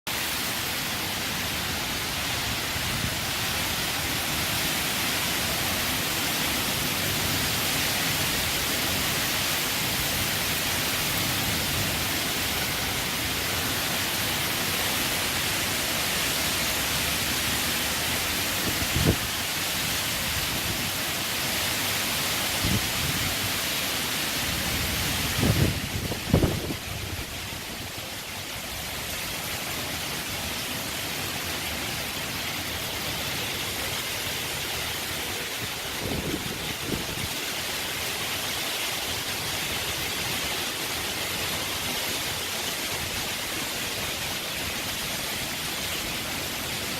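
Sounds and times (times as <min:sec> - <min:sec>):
heavy rain in strong wind: 0:00.1 - 0:46.9.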